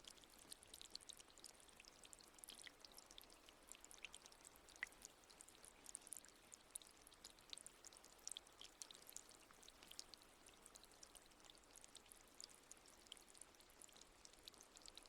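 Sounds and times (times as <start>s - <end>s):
faint trickling water: 0.0s - 15.0s.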